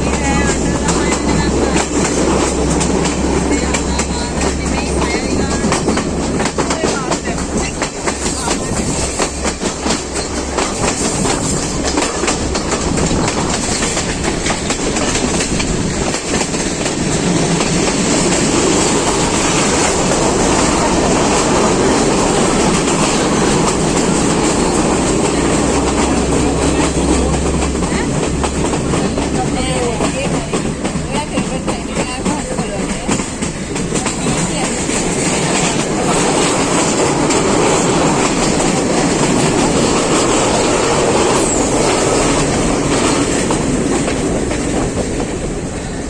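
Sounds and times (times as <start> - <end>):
train rumble: 0.0 - 46.0
train wheels clicking over rail joints: 0.0 - 46.0.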